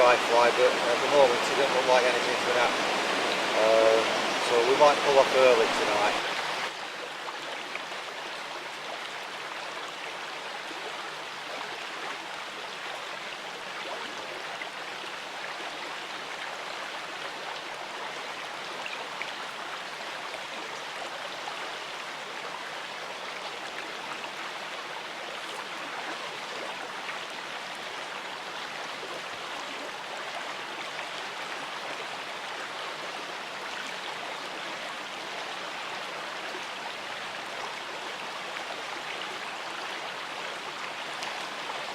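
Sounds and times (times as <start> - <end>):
river water rushing over stones: 0.0 - 41.9.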